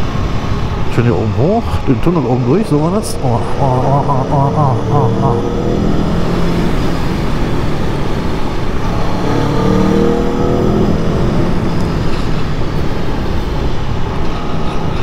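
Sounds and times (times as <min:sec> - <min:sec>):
wind and road noise: 0:00.0 - 0:15.0
motorcycle engine accelerating: 0:01.3 - 0:14.1.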